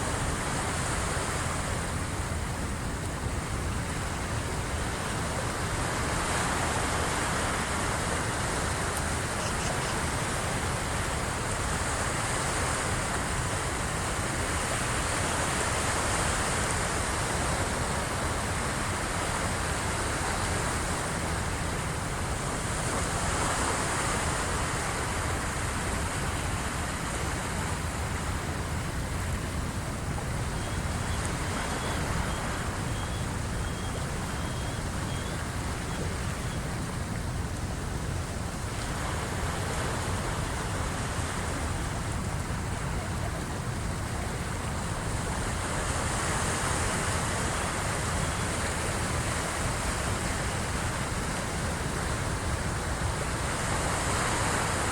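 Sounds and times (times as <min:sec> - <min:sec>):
waves washing against shore: 0:00.0 - 0:54.9.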